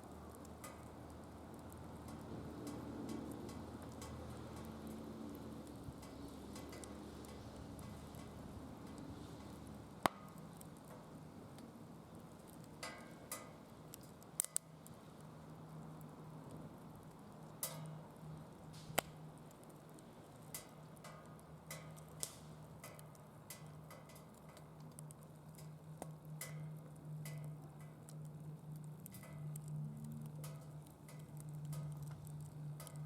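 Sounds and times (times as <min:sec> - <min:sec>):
steady low hum: 0:00.0 - 0:33.0
wood fire crackling: 0:00.0 - 0:33.0.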